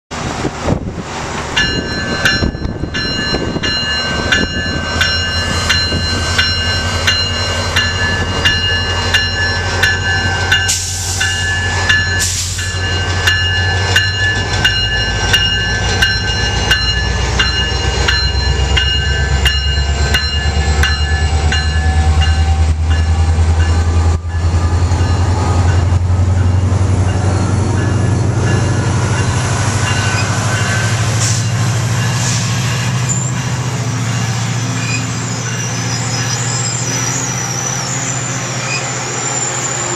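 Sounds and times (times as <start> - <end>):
diesel locomotive engine drone: 0.1 - 39.9
locomotive bell ringing: 1.5 - 39.9.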